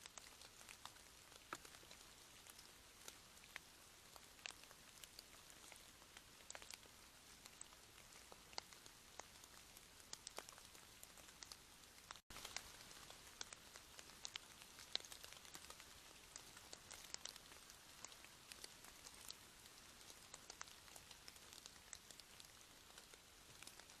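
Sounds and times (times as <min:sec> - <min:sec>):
faint rain falling: 0:00.0 - 0:24.0
raindrops ticking: 0:00.0 - 0:24.0.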